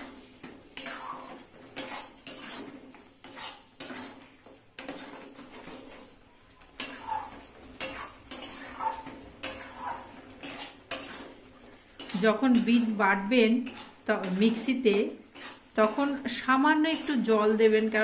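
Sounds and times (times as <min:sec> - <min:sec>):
metal spatula scraping a pan: 0:00.0 - 0:18.0.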